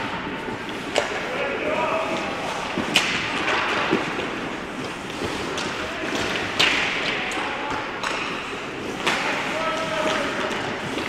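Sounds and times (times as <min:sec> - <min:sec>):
skates scraping on ice: 0:00.0 - 0:11.0
sharp crack of stick or puck: 0:00.6 - 0:01.4, 0:02.1 - 0:11.0.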